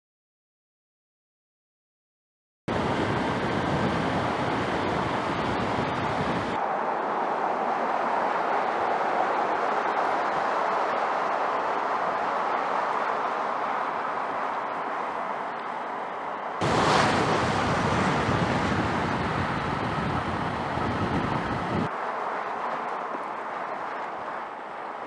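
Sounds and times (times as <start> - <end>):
deep road rumble: 2.7 - 25.0
tyres and wind rushing: 2.7 - 25.0.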